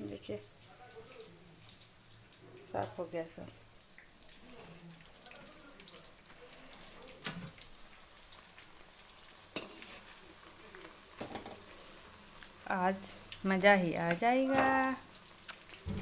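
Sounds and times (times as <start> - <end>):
fritters sizzling in hot oil: 0.0 - 16.0.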